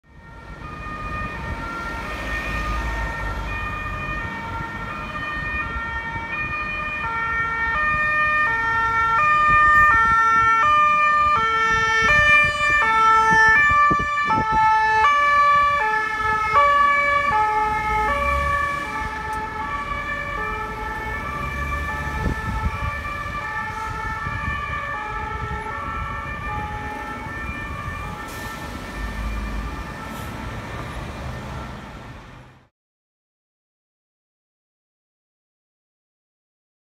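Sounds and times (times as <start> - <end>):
two-tone ambulance siren: 0.0 - 32.6
traffic rumble: 0.1 - 32.7.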